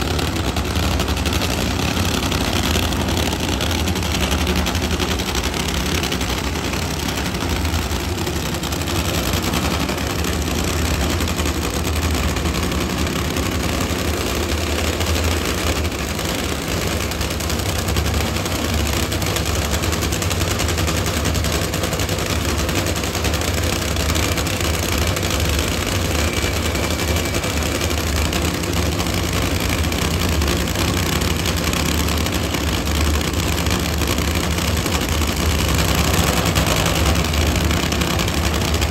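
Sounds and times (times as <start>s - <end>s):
drag car engine idling: 0.0s - 38.9s.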